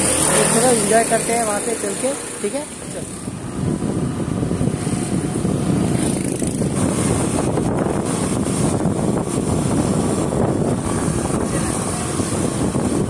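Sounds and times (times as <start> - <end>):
motor scooter running: 0.0 - 13.0
wind buffeting microphone: 0.0 - 13.0.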